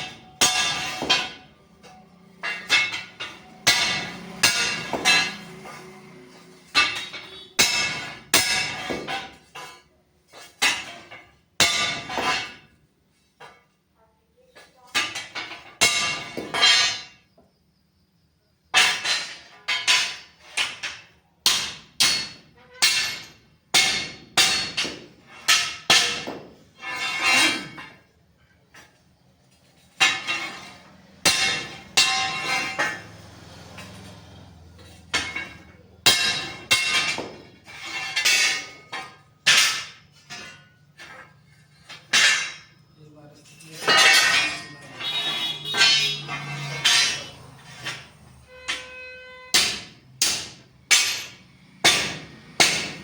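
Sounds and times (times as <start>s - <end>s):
hammer striking steel: 0.0s - 9.8s, 10.4s - 12.7s, 15.0s - 17.2s, 18.8s - 28.0s, 30.0s - 42.8s, 43.6s - 53.0s.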